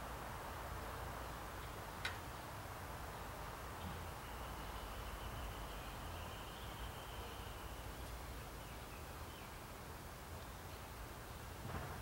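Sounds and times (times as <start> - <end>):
outdoor backyard ambience: 0.0 - 12.0.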